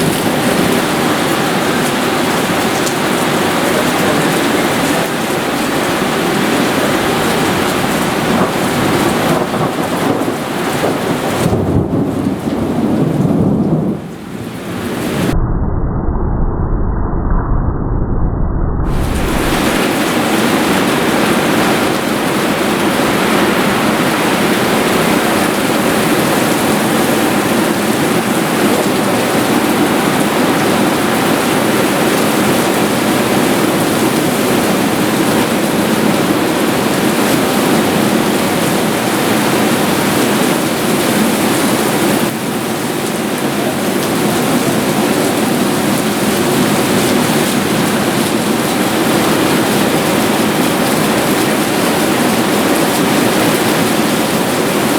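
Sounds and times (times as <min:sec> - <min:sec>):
heavy rain: 0:00.0 - 0:15.4, 0:18.8 - 0:54.9.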